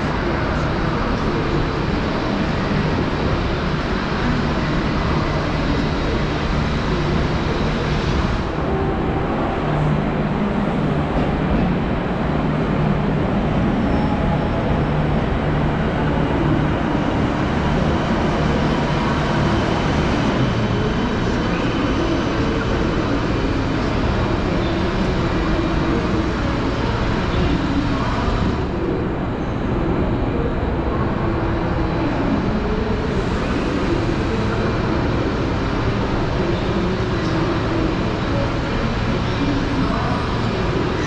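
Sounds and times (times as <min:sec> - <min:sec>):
low rumble of trains: 0:00.0 - 0:41.0.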